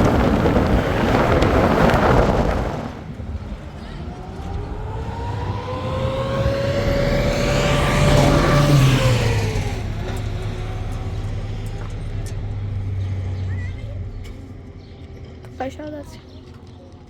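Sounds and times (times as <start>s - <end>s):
vehicle driving past: 0.0s - 15.5s
low engine hum: 0.0s - 17.0s.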